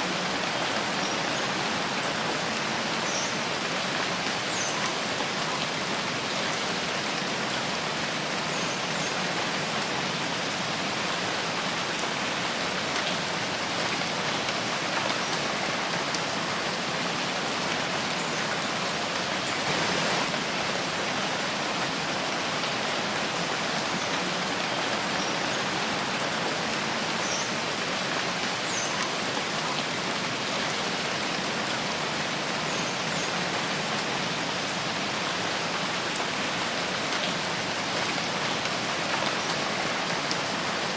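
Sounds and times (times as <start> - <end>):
rain on leaves and ground: 0.0 - 40.9.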